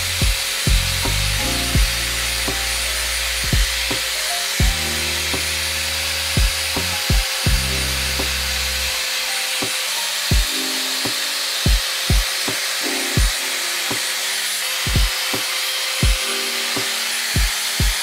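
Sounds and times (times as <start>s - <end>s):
lofi hip-hop music: 0.0s - 14.2s, 14.8s - 18.0s.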